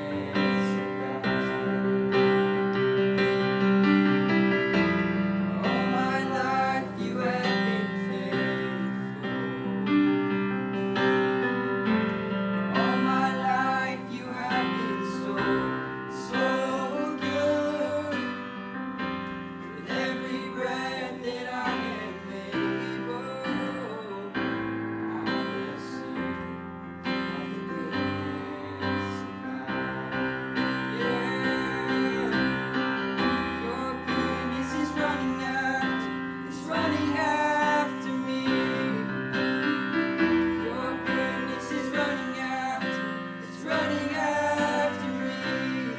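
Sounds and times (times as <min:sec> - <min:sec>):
people singing: 0:00.0 - 0:45.9
piano chords: 0:00.0 - 0:45.9.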